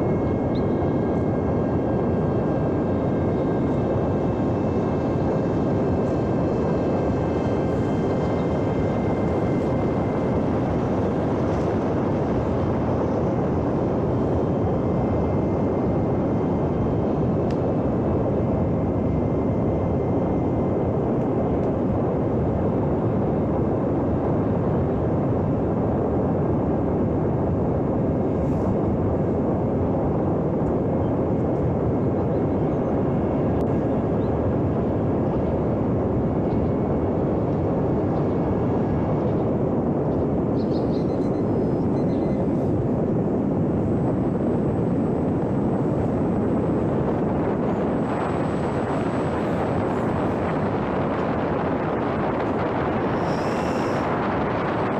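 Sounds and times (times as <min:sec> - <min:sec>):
faint high motor whine: 0:00.0 - 0:54.9
propeller and air rush: 0:00.0 - 0:54.9.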